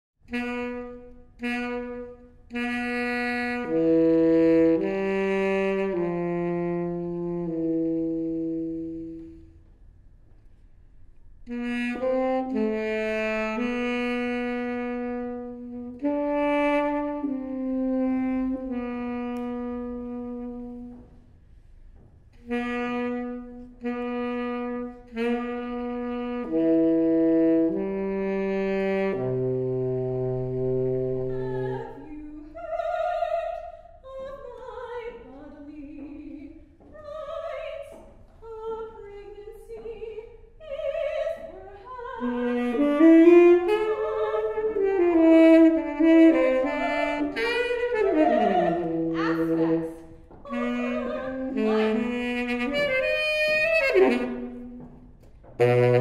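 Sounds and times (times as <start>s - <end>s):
solo saxophone: 0.2s - 9.8s, 11.2s - 56.0s.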